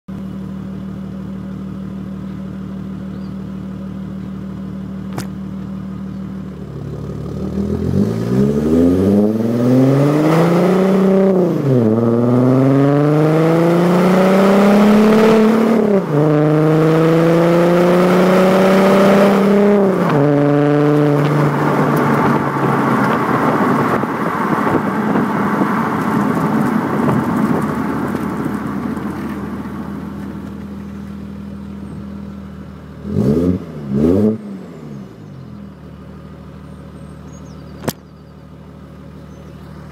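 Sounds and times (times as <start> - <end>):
diesel car engine: 0.1 - 39.9
road and wind noise: 0.1 - 39.9.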